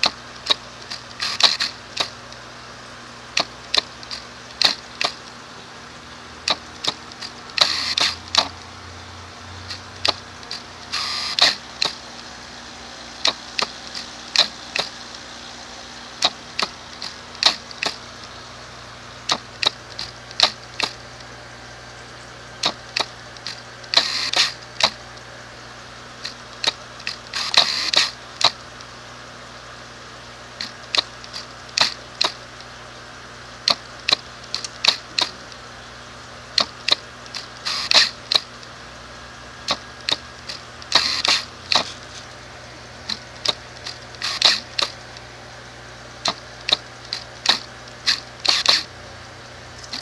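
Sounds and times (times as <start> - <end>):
lens motor whirring: 0.0 - 2.5, 3.3 - 5.6, 6.4 - 8.7, 9.5 - 18.4, 19.0 - 21.6, 22.4 - 29.0, 30.6 - 32.7, 33.6 - 35.7, 36.5 - 38.8, 39.6 - 45.4, 46.2 - 49.0
autofocus motor clicks: 0.0 - 29.1, 30.5 - 50.0.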